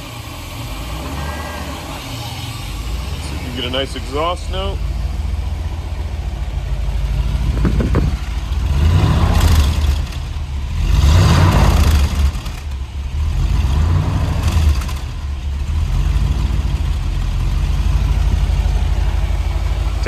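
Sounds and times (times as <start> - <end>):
car engine idling: 0.0 - 20.0
engine throttle revs: 0.0 - 20.0.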